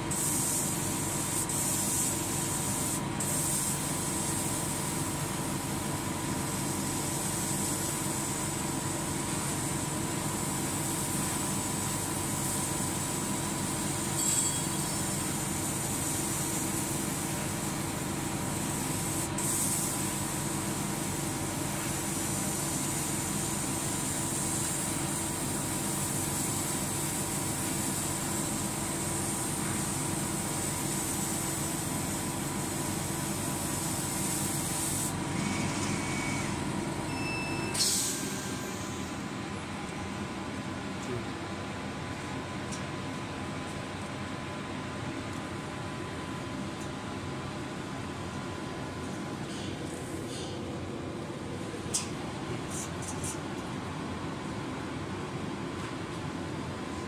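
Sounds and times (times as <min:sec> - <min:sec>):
laser cutter hum and hiss: 0:00.0 - 0:57.0.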